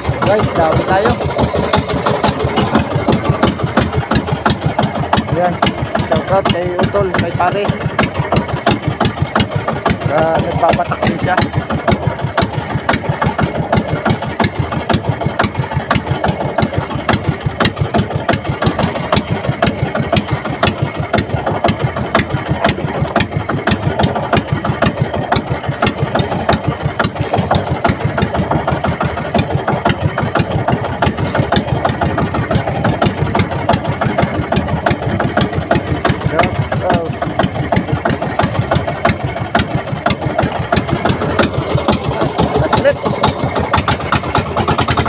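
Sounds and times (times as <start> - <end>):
small boat engine running: 0.0 - 45.0.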